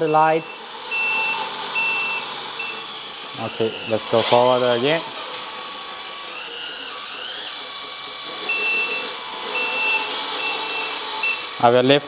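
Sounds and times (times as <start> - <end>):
electric motor whine: 0.0 - 12.0
simulated engine sound: 0.0 - 12.0.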